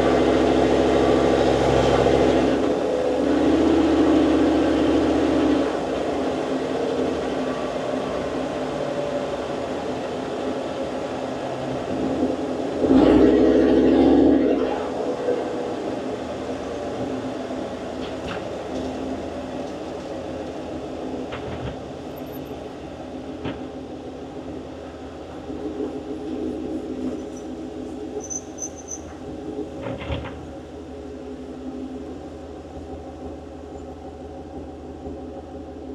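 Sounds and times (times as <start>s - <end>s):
engine running inside vehicle cab: 0.0s - 35.9s.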